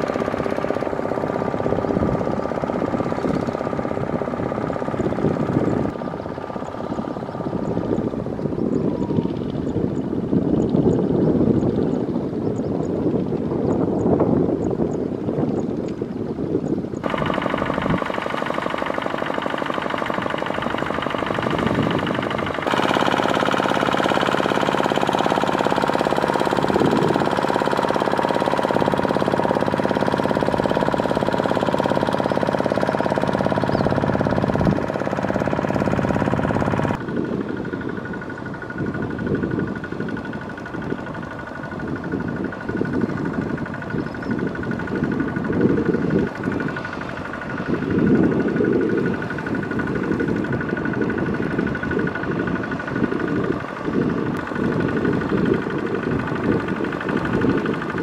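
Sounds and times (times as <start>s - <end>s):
diesel tractor engine chugging: 0.0s - 58.0s.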